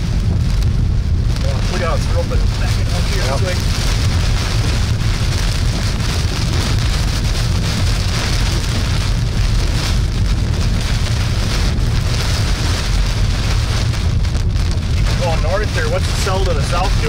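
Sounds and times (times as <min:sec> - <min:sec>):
heavy rain on vehicle: 0:00.0 - 0:17.0
road and wind rumble: 0:00.0 - 0:17.0.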